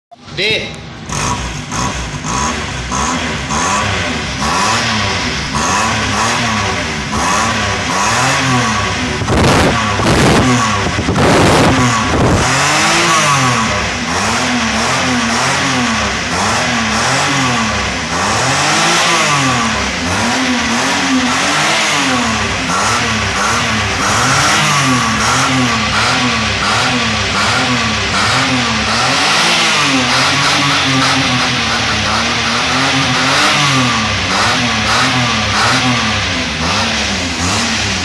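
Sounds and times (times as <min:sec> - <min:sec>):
car engine revving: 0:00.8 - 0:38.0.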